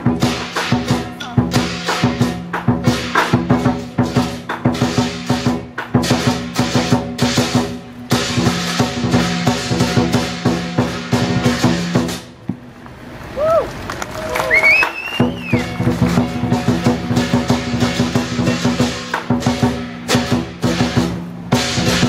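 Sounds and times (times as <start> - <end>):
large drum beaten fast: 0.0 - 12.4, 15.2 - 22.0.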